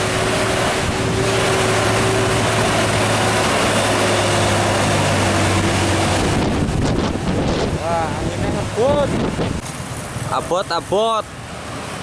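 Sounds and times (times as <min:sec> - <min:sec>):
diesel truck engine growling: 0:00.0 - 0:12.0
road and wind noise: 0:00.0 - 0:12.0.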